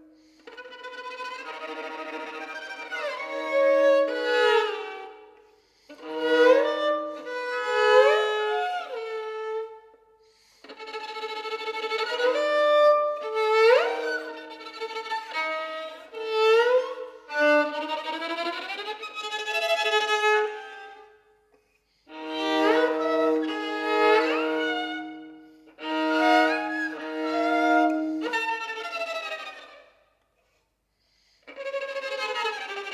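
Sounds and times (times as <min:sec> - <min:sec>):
solo violin playing: 0:00.0 - 0:21.3, 0:22.1 - 0:30.0, 0:31.4 - 0:32.9.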